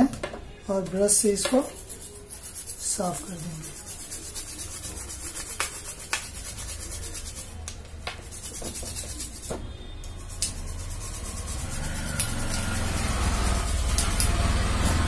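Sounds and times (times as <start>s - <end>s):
brush scrubbing circuit board: 1.3s - 7.6s, 8.2s - 9.5s, 10.1s - 14.8s.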